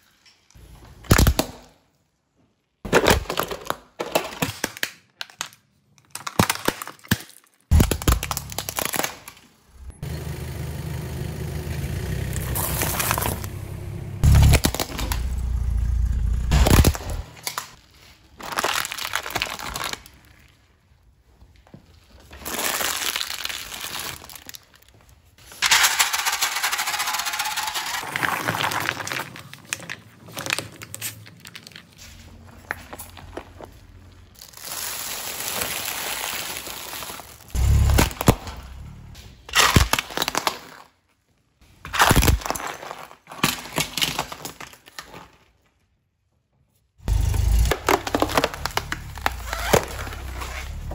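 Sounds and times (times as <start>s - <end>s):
car tyre crushing plastic and paper: 2.8s - 9.9s, 12.4s - 15.8s, 16.5s - 25.8s, 27.3s - 46.0s, 47.1s - 50.9s.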